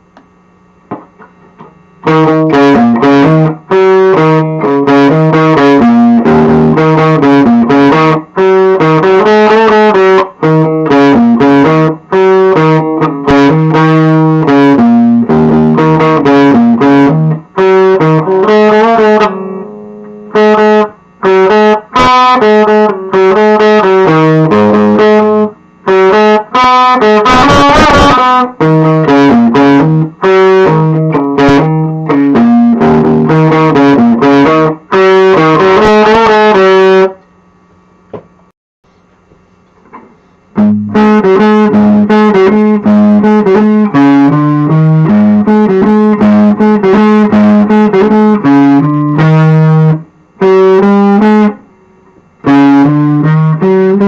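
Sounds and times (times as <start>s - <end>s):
electric guitar through amplifier: 0.0s - 54.0s.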